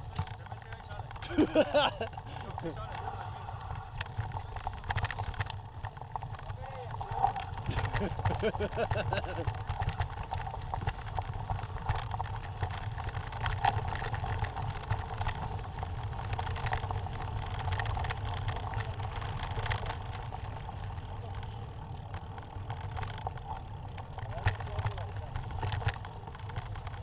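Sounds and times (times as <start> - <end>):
bike knocking and rattling: 0.0 - 27.0
bike tyres rumbling on gravel: 0.0 - 27.0.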